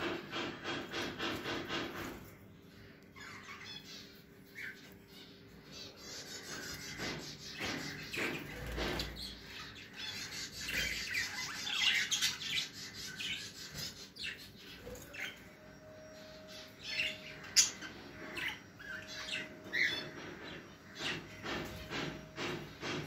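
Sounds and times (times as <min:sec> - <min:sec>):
birds chirping and squawking: 0:00.0 - 0:23.0.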